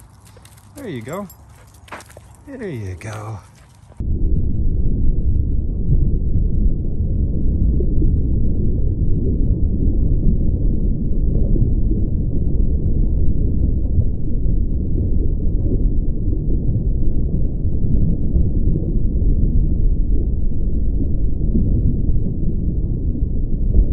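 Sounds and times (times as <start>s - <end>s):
low rumbling noise: 0.0s - 23.9s.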